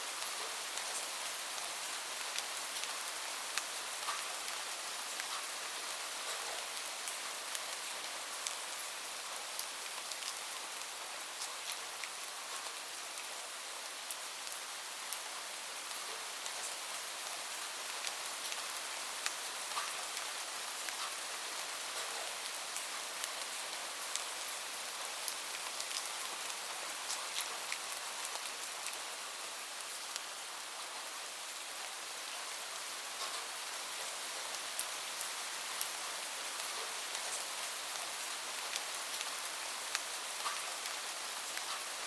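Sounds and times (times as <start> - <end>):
raindrops ticking on surface: 0.2 - 12.8, 15.9 - 29.1, 33.1 - 42.0.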